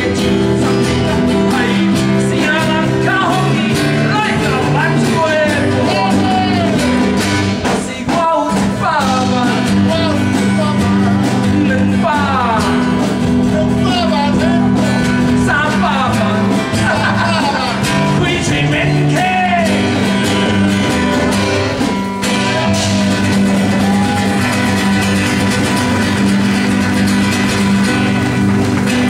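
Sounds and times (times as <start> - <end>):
men singing: 0.0 - 25.9
bass line: 0.0 - 29.0
strummed acoustic guitars: 0.0 - 29.0.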